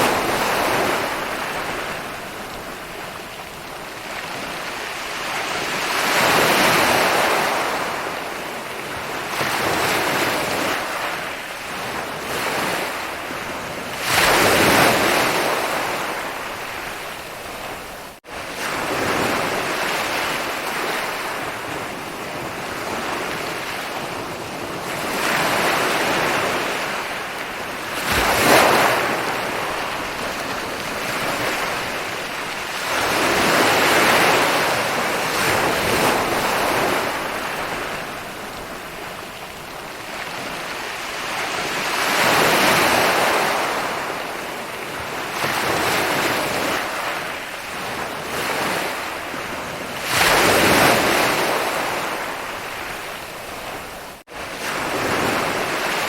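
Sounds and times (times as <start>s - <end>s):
waves breaking on a beach: 0.0s - 56.0s
wind: 0.0s - 56.0s.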